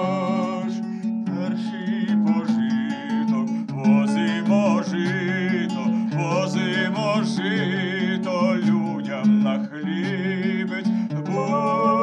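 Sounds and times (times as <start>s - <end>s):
man singing a folk ballad: 0.0s - 12.0s
plucked lute: 0.0s - 12.0s.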